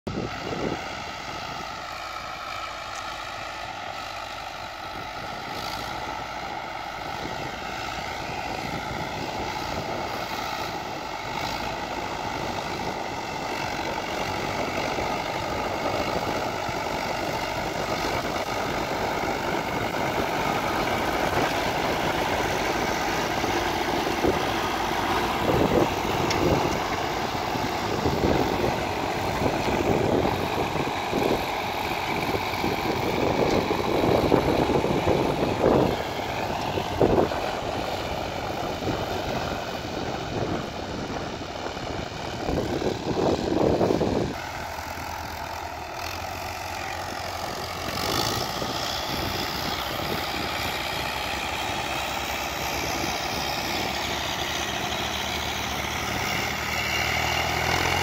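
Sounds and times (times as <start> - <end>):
tractor diesel engines under load: 0.1 - 58.0.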